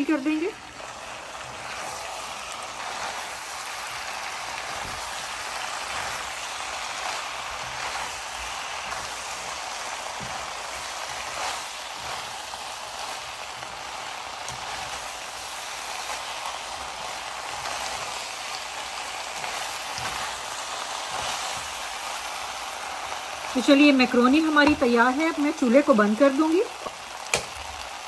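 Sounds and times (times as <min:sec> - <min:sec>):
food sizzling in a frying pan: 0:00.0 - 0:28.0.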